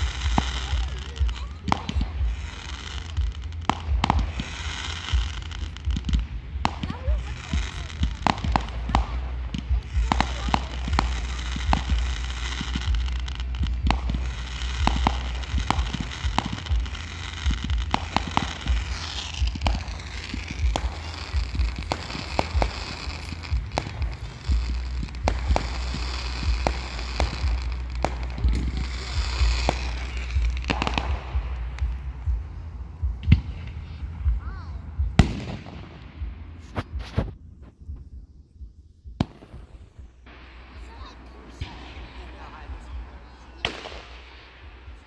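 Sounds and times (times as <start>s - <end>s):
fireworks popping and banging: 0.0s - 38.1s, 39.1s - 45.0s
low rumble: 0.0s - 45.0s.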